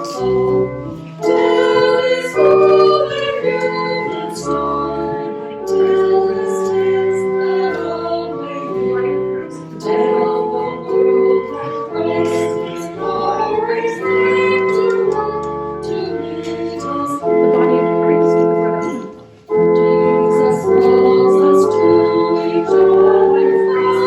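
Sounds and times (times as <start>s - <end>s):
church organ: 0.0s - 24.0s
hymn singing: 0.0s - 24.0s.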